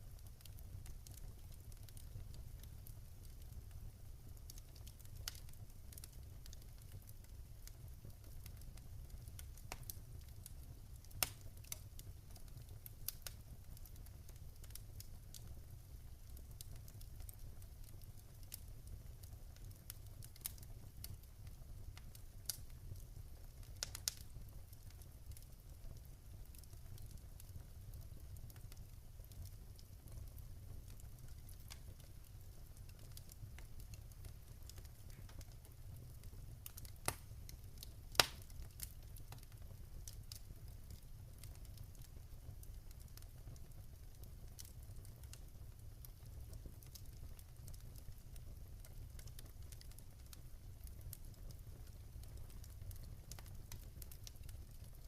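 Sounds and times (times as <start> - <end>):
low steady fire rumble: 0.0 - 55.0
wood fire crackling: 0.0 - 55.0.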